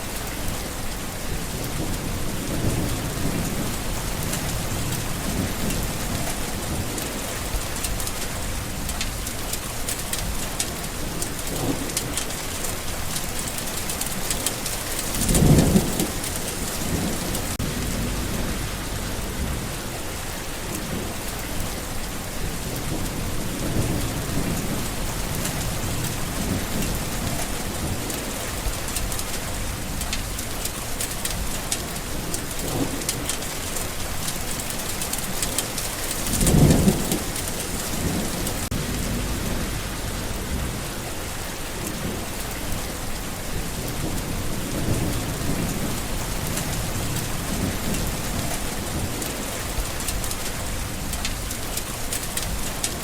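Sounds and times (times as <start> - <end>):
heavy rain falling: 0.0 - 53.0
thunder rumbles: 0.1 - 53.0.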